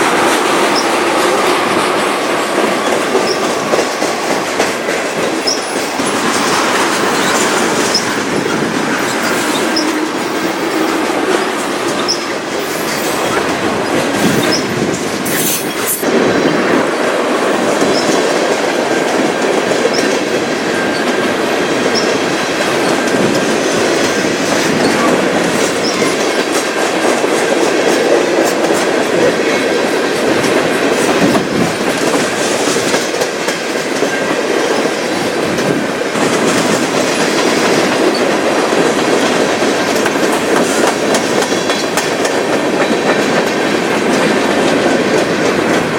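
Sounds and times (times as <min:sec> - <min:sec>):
railway wheels clacking on rails: 0:00.0 - 0:45.9.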